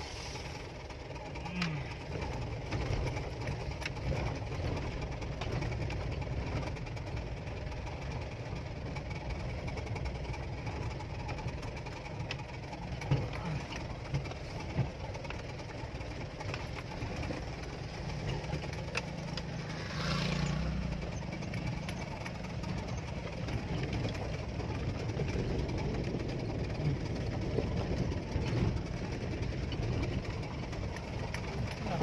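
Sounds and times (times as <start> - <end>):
car engine running: 0.0 - 32.0
tyres on gravel road: 0.0 - 32.0
small rattles and knocks: 0.8 - 32.0.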